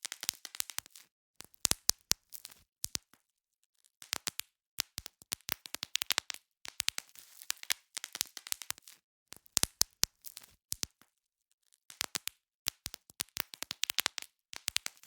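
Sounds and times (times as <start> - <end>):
bubble wrap popping: 0.0 - 3.0, 4.0 - 11.1, 11.9 - 15.0.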